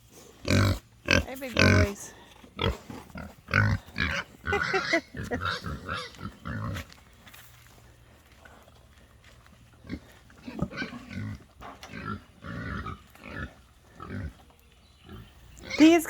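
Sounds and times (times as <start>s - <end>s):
pigs grunting and oinking: 0.3s - 7.0s, 9.7s - 16.0s.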